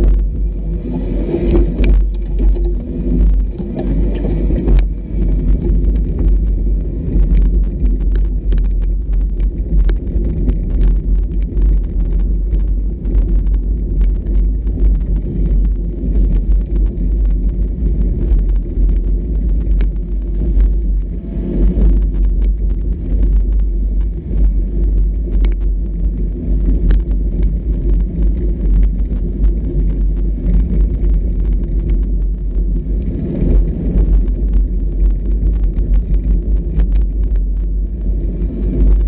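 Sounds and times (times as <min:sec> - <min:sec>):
off-road vehicle rumbling: 0:00.0 - 0:39.0.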